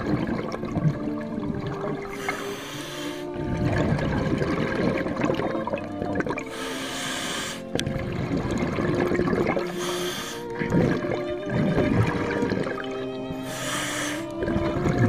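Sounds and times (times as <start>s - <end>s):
background music with held notes: 0.0s - 15.0s
underwater rushing and bubbling: 0.0s - 15.0s.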